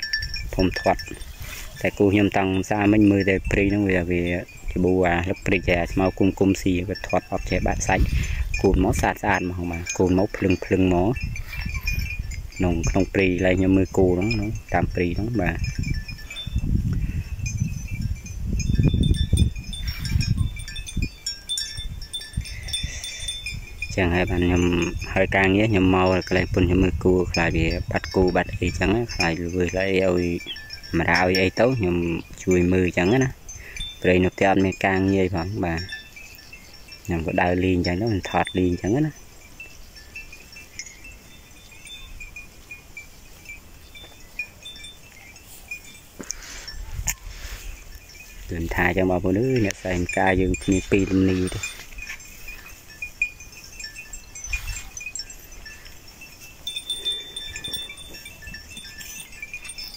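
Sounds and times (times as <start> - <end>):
small bells tinkling: 0.0 - 59.9
wind buffeting microphone: 0.0 - 59.9.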